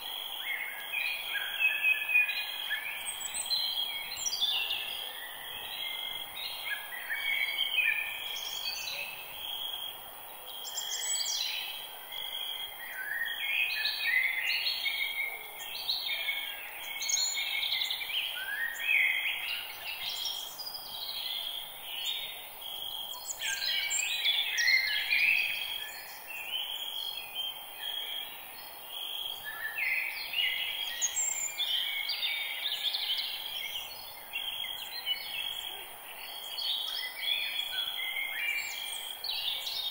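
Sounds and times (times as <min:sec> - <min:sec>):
forest birds chirping and trilling: 0:00.0 - 0:39.9.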